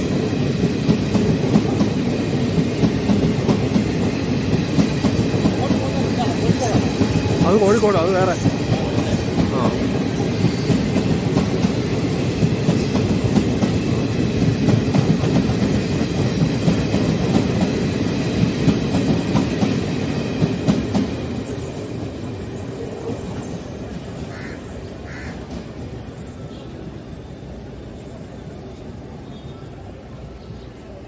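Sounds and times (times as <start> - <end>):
train coaches rumbling past: 0.0 - 31.0.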